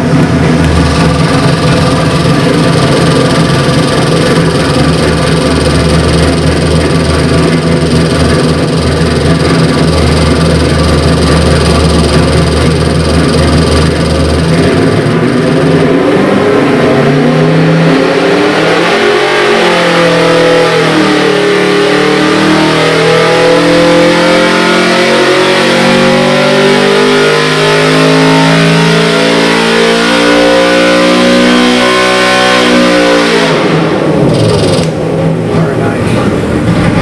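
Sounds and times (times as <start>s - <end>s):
race engine at full throttle: 0.0s - 37.0s.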